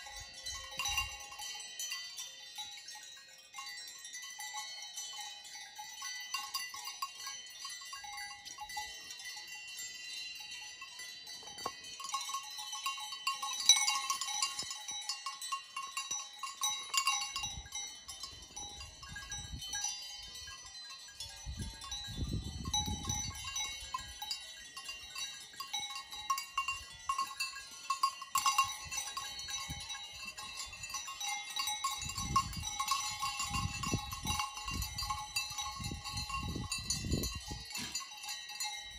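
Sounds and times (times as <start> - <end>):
livestock bells clanking: 0.0 - 38.9.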